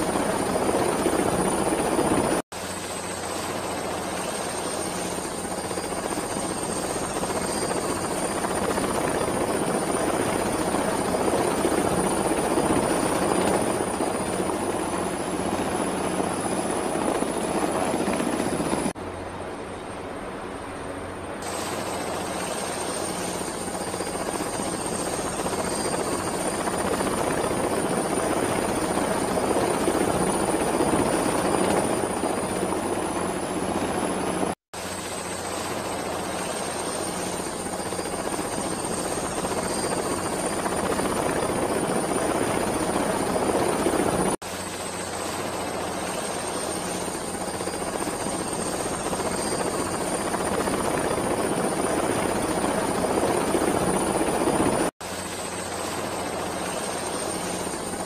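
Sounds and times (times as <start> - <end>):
aircraft engine rush: 0.0 - 58.0.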